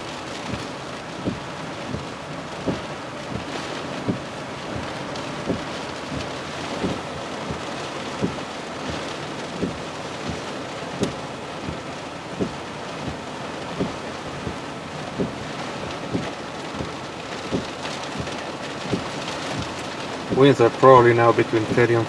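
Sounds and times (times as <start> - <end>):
rain and wind hissing: 0.0 - 22.0.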